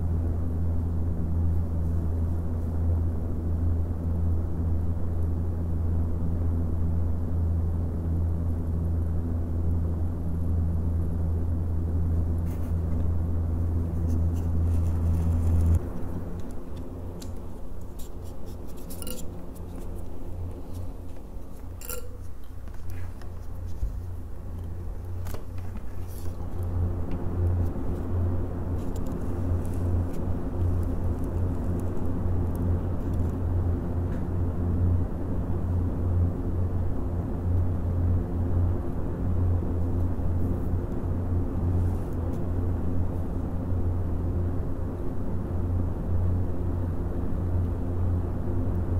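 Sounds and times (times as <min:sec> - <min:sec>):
computer fans humming: 0:00.0 - 0:48.9.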